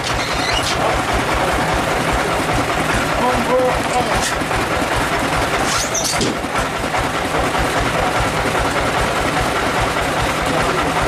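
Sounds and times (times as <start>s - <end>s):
band saw machinery running: 0.0s - 11.0s.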